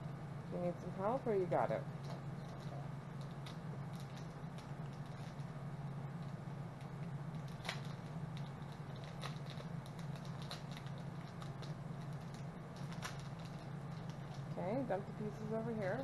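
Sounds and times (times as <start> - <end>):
steady low hum: 0.0 - 16.0
plastic bag crinkling: 1.9 - 16.0.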